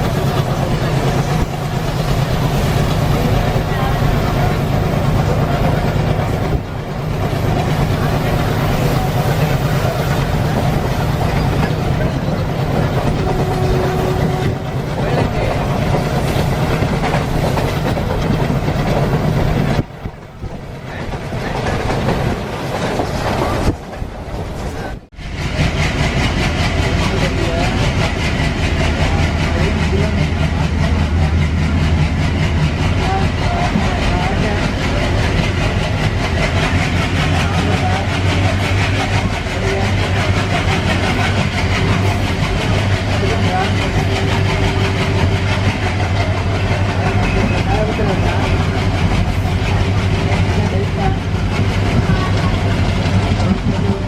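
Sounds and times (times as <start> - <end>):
diesel locomotive chugging: 0.0 - 54.0
train wheels clattering on rails: 0.0 - 54.0.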